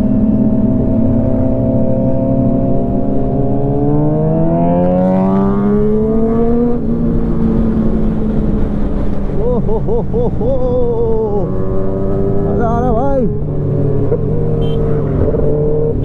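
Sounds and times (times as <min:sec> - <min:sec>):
motorcycle engine accelerating: 0:00.0 - 0:09.7, 0:10.4 - 0:16.0.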